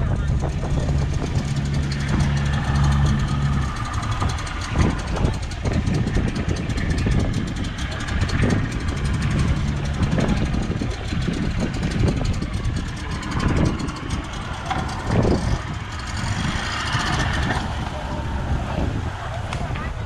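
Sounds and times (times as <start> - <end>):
boat engines running: 0.0 - 20.0
gusty wind on microphone: 0.0 - 20.0.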